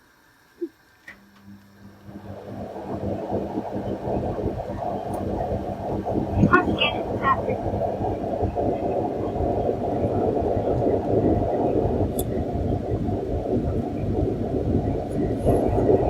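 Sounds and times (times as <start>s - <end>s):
faint hum: 0.0s - 16.0s
low rumbling noise: 1.2s - 16.0s.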